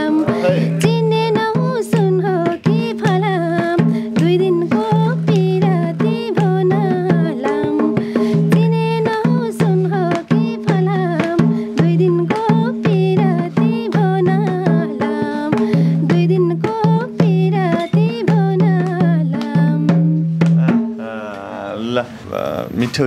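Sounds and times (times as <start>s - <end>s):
hand drum beating: 0.0s - 21.6s
wordless melody line: 0.0s - 22.1s.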